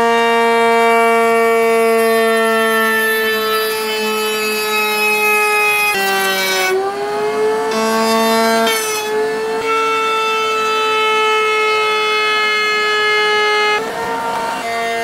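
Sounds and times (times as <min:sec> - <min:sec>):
router bit whining through wood: 0:00.0 - 0:15.0.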